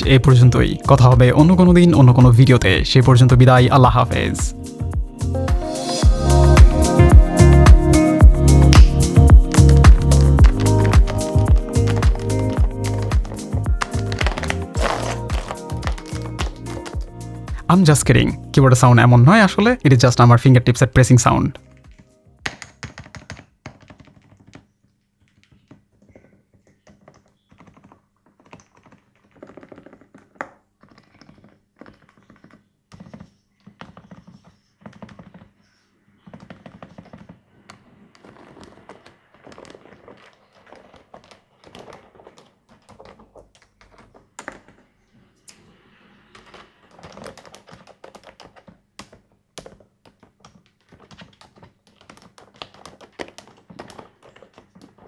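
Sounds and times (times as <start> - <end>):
quiet keyboard typing: 6.4 - 17.8, 21.5 - 35.5, 36.3 - 55.0.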